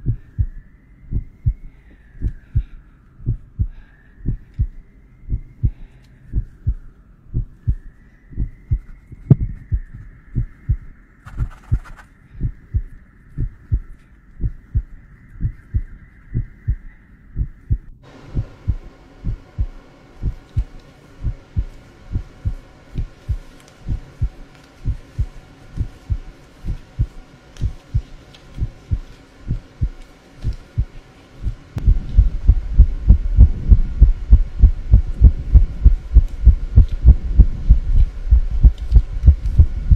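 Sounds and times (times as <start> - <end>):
heartbeat thuds: 0.0 - 39.9.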